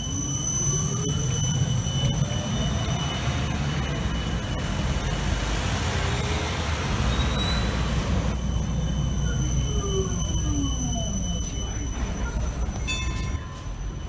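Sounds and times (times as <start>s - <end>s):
tram passing whine: 0.0s - 14.0s
tram rolling rumble: 0.0s - 14.0s
road traffic noise: 0.8s - 14.0s.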